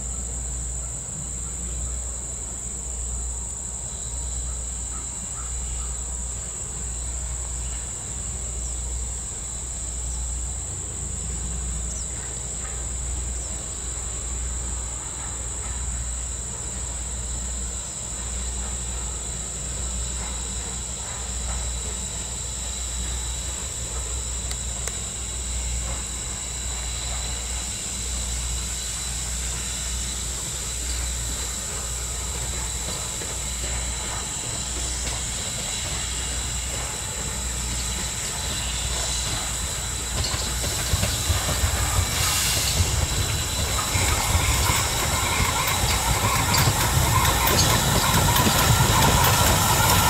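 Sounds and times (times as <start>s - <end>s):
insects droning: 0.0s - 50.0s
steam locomotive rumble: 0.0s - 50.0s.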